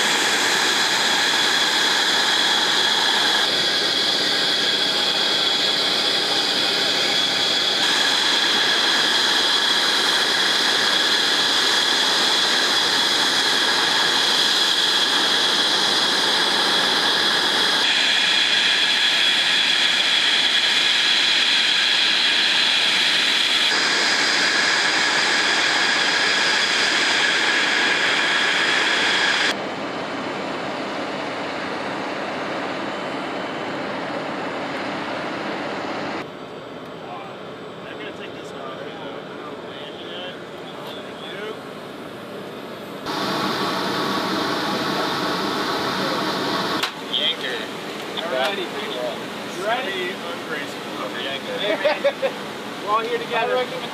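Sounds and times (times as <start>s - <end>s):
jet engines whining and roaring: 0.0s - 53.9s.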